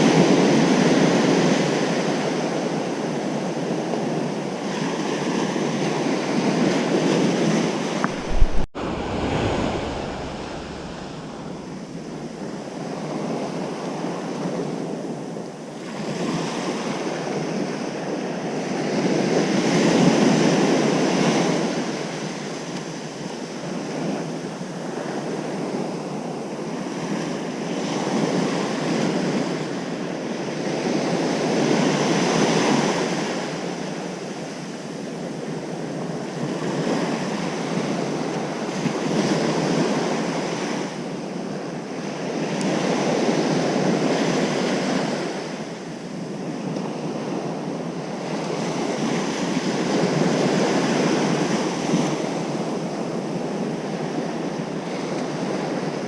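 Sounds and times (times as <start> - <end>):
ocean waves breaking on beach: 0.0 - 15.2, 15.8 - 56.0.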